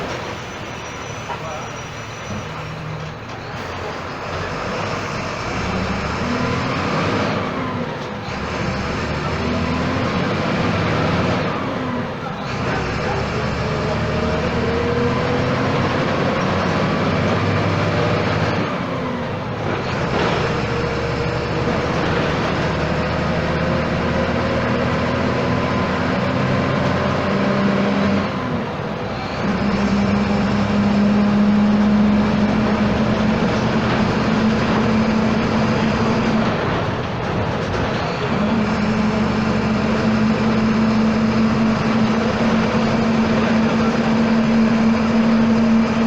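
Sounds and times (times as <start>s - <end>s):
bus diesel engine accelerating: 0.0s - 46.0s.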